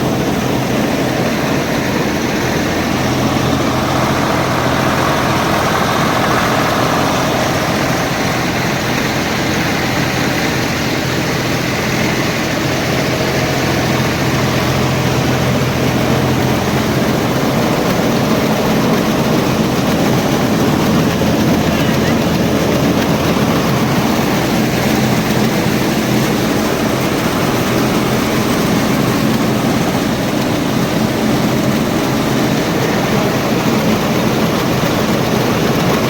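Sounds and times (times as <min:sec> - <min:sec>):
diesel engine running: 0:00.0 - 0:36.0
threshing drum working: 0:00.0 - 0:36.0.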